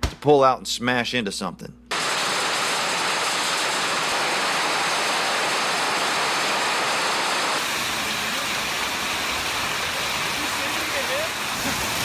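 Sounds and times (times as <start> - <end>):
hail pounding on a roof: 1.9 - 12.0.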